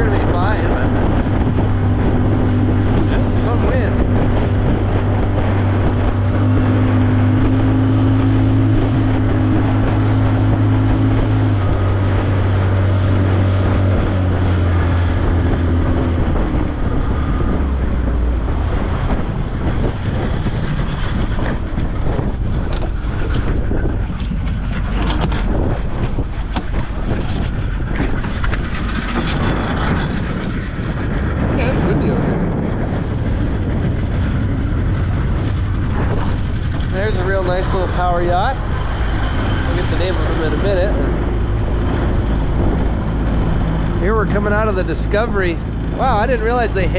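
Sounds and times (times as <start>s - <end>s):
outboard motor running: 0.0s - 46.9s
water noise: 0.0s - 46.9s
wind buffeting microphone: 0.0s - 46.9s.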